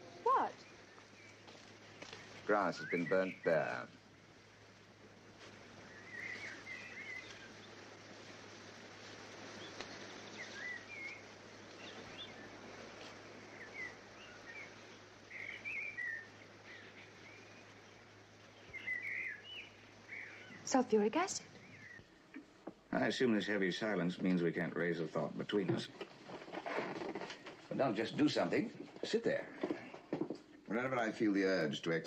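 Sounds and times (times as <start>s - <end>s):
background hiss: 0.0s - 32.0s
faint birdsong chirping: 0.0s - 32.0s.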